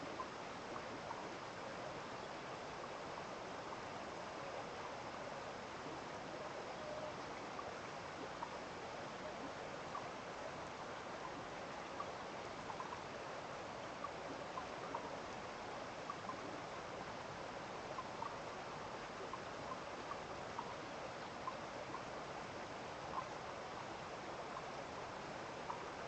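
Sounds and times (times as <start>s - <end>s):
stream running: 0.0s - 26.0s.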